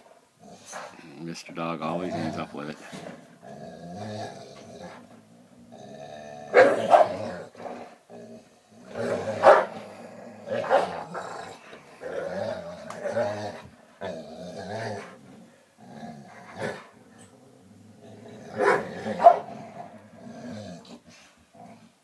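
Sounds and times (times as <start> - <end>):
dogs growling in play: 0.0 - 22.0.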